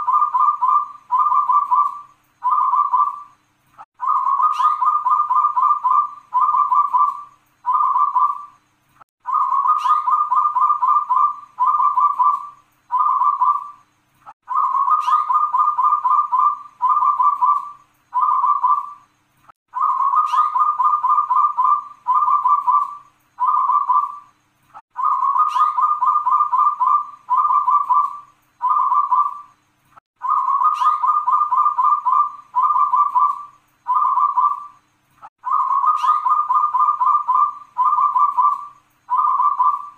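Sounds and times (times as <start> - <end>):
dove cooing song: 0.0 - 3.4, 4.0 - 8.6, 9.2 - 13.8, 14.4 - 19.1, 19.7 - 24.3, 24.9 - 29.6, 30.2 - 34.8, 35.4 - 39.9.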